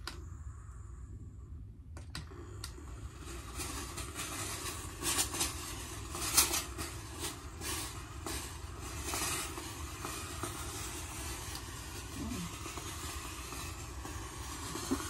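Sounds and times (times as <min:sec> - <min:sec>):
steady low hum: 0:00.0 - 0:15.0
steam hissing: 0:02.2 - 0:15.0.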